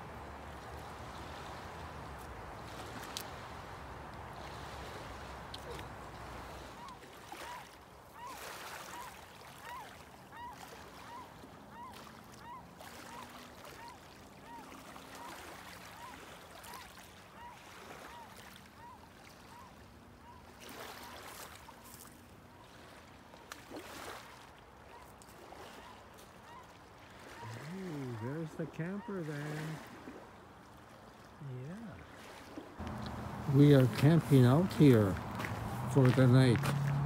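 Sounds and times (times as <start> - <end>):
soft wind: 0.0 - 37.0
water lapping on rocky beach: 0.0 - 37.0.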